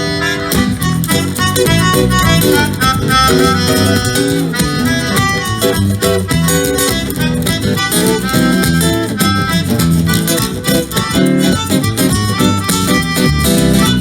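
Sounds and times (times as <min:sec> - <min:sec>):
acoustic band playing: 0:00.0 - 0:14.0.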